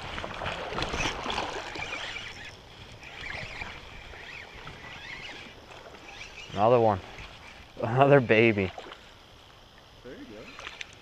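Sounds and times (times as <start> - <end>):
creek water splashing: 0.0 - 11.0.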